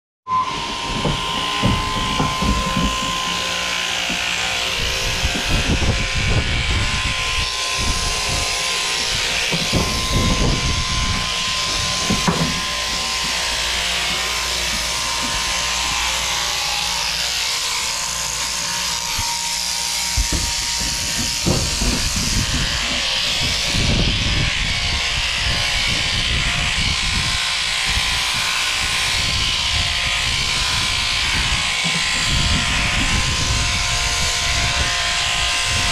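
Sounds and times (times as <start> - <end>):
electric shears buzzing: 0.3 - 35.9.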